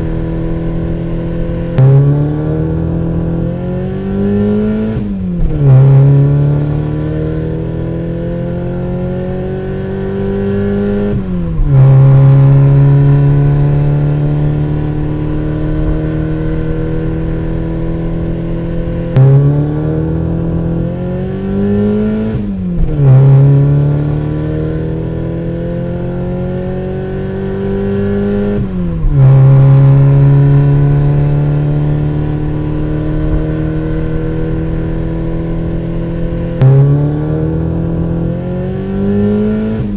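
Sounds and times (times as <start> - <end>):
vehicle engine accelerating: 0.0 - 39.9.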